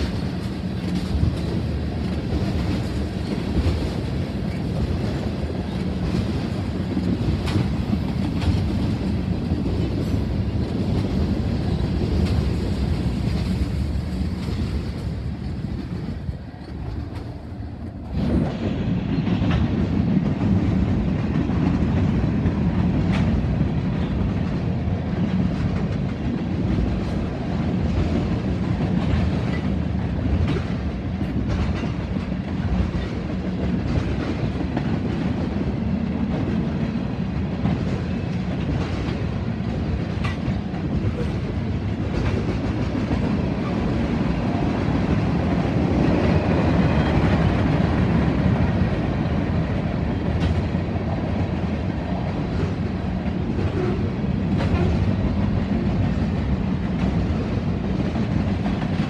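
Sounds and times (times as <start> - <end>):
freight train wheels rumbling: 0.0 - 59.0
rail joint clacks: 0.0 - 59.0.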